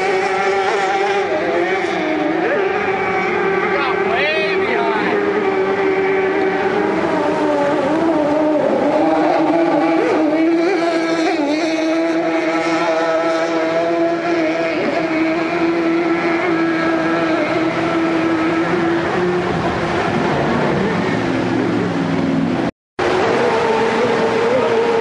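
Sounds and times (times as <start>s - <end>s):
outboard motor high-pitched drone: 0.0s - 25.0s
whitewater rapids rushing: 0.0s - 25.0s.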